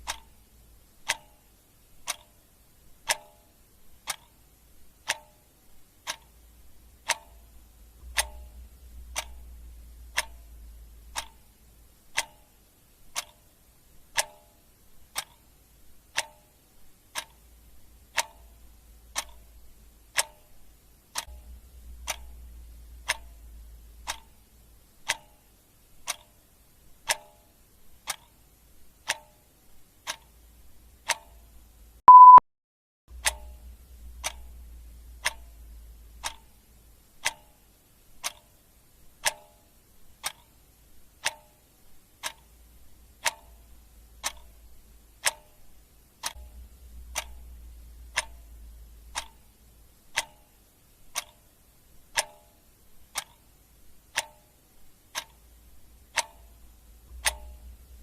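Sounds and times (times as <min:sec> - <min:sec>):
clock ticking: 0:00.0 - 0:32.4, 0:33.1 - 0:58.0.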